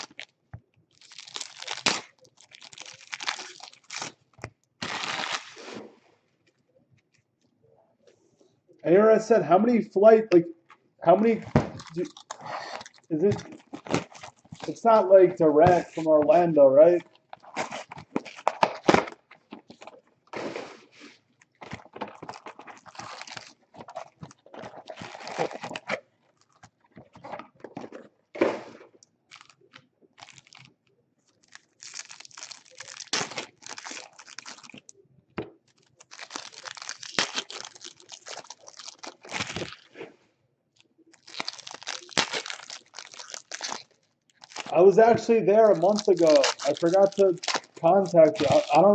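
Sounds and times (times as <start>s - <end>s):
wrappers tearing and crinkling: 0.0s - 5.8s, 11.2s - 20.4s, 21.0s - 28.0s, 29.3s - 34.9s, 35.7s - 40.0s, 40.8s - 48.9s.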